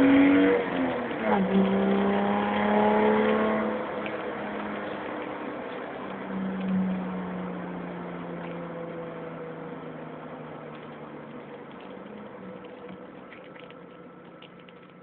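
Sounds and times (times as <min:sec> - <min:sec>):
car engine exhaust drone: 0:00.0 - 0:15.0.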